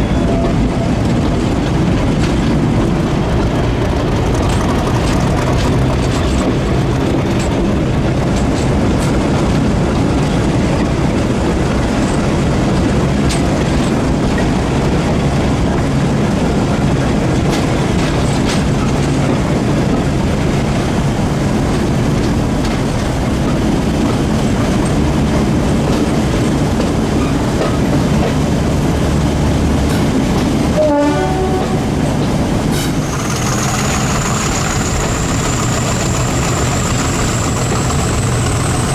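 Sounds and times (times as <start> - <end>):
diesel locomotive engine running: 0.0 - 38.9
train wheels rolling on rails: 0.0 - 38.9.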